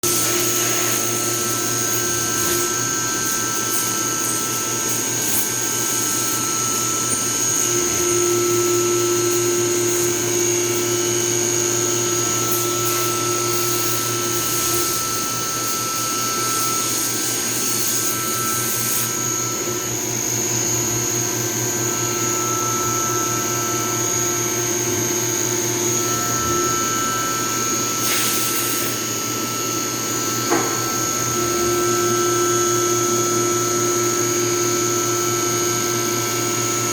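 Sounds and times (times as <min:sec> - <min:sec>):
cutter cutting tones: 0:00.0 - 0:32.0
coolant hiss: 0:00.0 - 0:36.9
milling machine spindle whine: 0:00.0 - 0:36.9.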